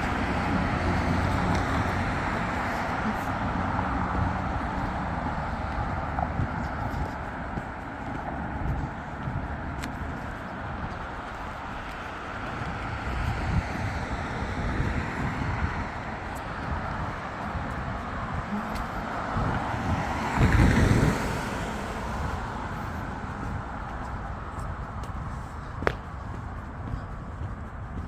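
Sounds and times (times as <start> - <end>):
passing cars hum: 0.0 - 28.0.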